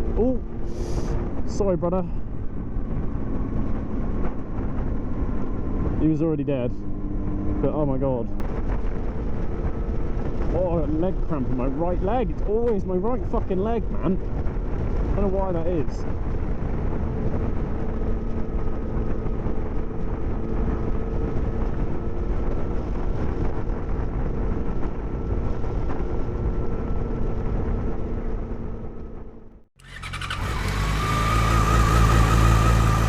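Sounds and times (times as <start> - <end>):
engine with wavering whine: 0.0 - 33.0
motorcycle engine cruising: 0.0 - 33.0.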